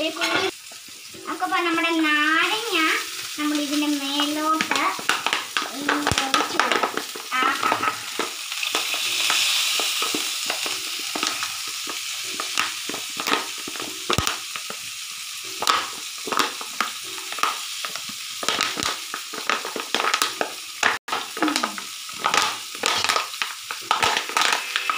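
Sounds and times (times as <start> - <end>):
fish sizzling in hot oil: 0.0 - 24.9
oil popping and crackling: 0.0 - 24.9.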